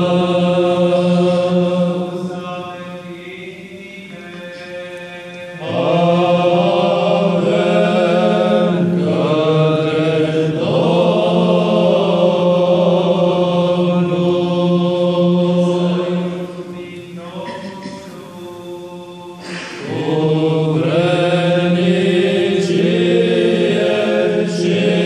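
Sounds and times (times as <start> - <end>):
low vocal drone: 0.0 - 25.0
men's choir chanting: 0.0 - 25.0.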